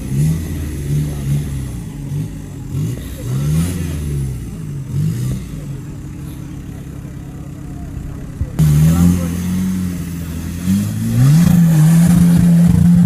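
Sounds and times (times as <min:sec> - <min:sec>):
engine revving in throttle blips: 0:00.0 - 0:13.0.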